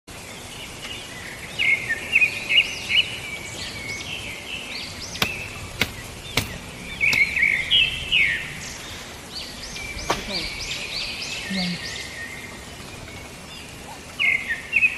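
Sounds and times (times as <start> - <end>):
birds chirping: 0.1 - 14.9.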